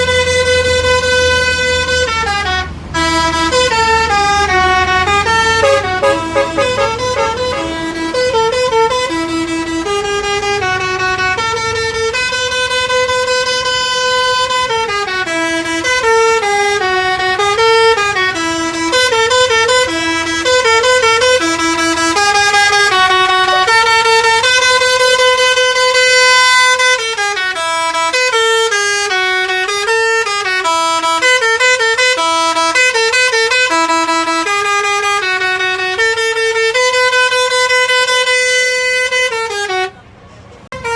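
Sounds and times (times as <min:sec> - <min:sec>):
multi-tone bus air horn tune: 0:00.0 - 0:40.1.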